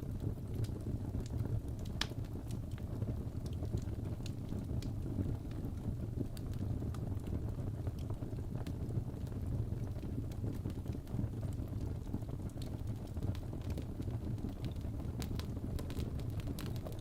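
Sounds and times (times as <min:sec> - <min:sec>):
low rumble of flames: 0:00.0 - 0:17.0
wood fire crackles and pops: 0:00.0 - 0:17.0.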